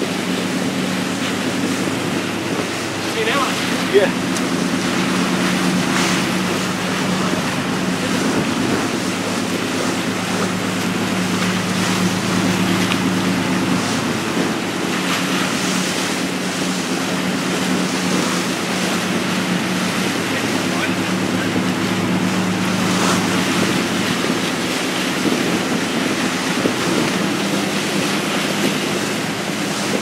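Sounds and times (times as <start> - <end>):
boat engines humming: 0.0 - 30.0
wake water rushing: 0.0 - 30.0.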